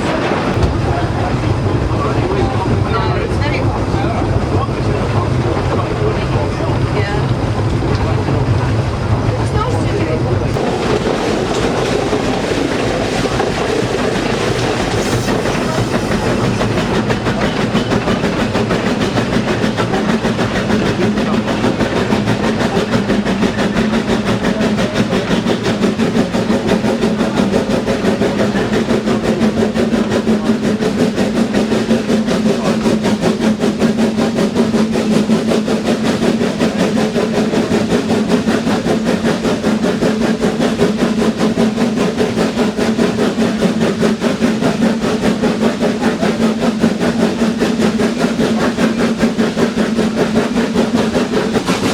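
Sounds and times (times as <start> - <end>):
train running with rattle: 0.0 - 51.9.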